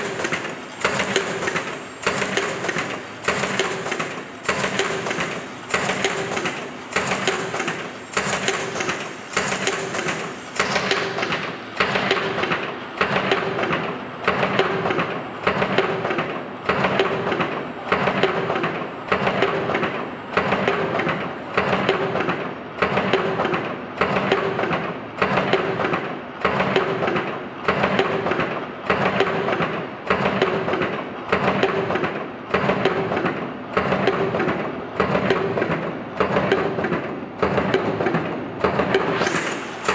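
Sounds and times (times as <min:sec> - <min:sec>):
machine clattering and clicking: 0:00.0 - 0:39.9.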